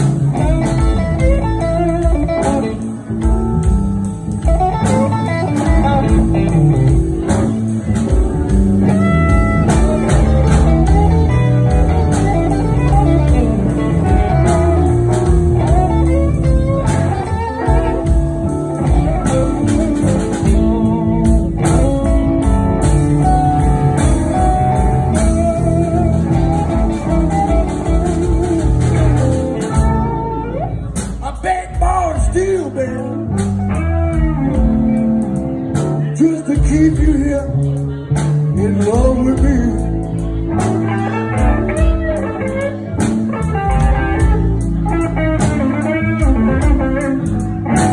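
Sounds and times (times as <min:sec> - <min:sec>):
bass guitar: 0:00.0 - 0:47.9
drum kit: 0:00.0 - 0:47.9
electric guitars: 0:00.0 - 0:47.9.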